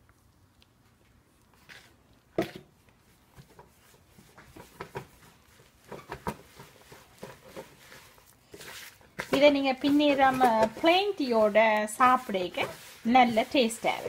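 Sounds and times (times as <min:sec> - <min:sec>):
hands squishing dough in bowl: 0:00.0 - 0:14.0.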